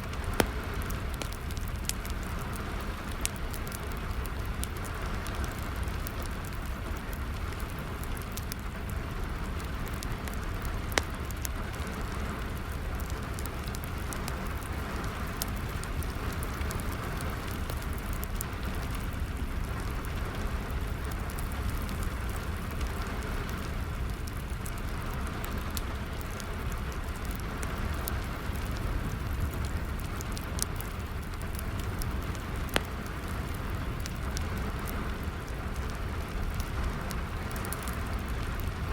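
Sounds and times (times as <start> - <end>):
steady rain falling: 0.0 - 38.9
wood fire crackling and popping: 0.0 - 38.9.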